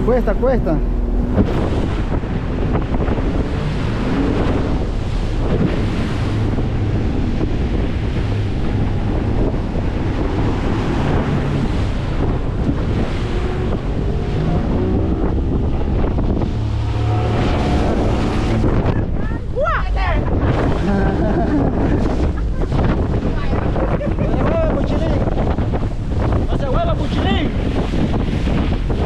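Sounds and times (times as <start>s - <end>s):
surf breaking around boat: 0.0s - 29.0s
wind buffeting microphone: 0.0s - 29.0s.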